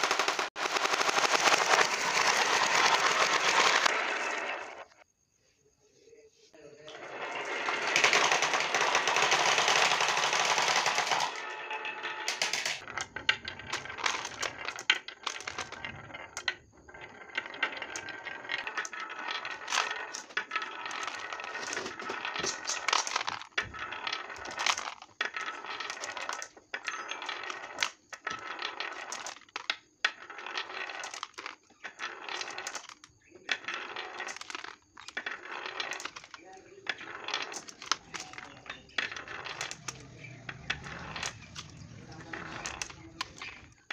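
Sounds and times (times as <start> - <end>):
marbles rolling on wooden track: 0.0 - 5.0, 6.5 - 43.9.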